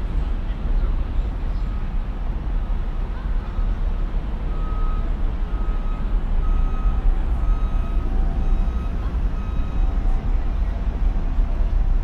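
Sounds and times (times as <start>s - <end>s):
traffic: 0.0s - 12.0s
vehicle engine rumble: 0.0s - 12.0s.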